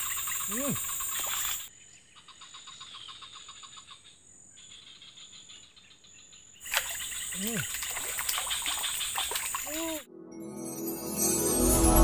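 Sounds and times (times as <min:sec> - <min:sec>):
rapid chirping call: 0:00.0 - 0:10.0.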